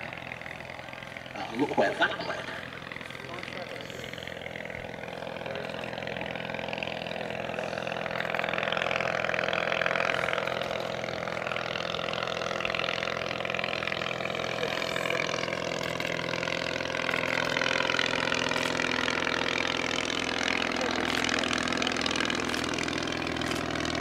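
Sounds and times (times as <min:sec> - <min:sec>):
aircraft engine running: 0:00.0 - 0:24.0.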